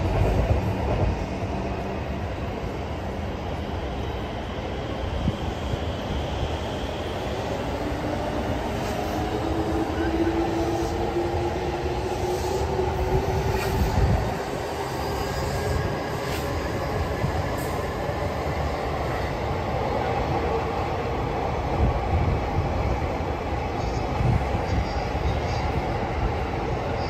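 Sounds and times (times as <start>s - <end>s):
electric train running past: 0.0s - 27.0s.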